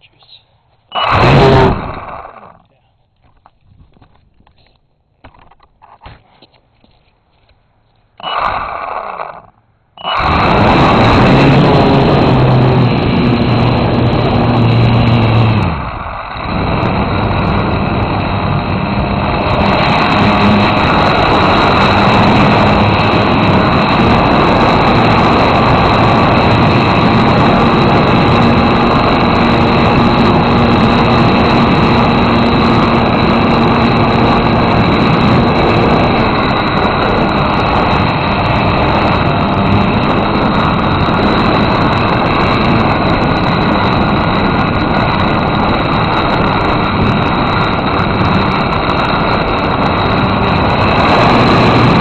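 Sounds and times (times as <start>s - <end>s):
model airplane motor and propeller: 0.8s - 7.0s, 8.2s - 52.0s.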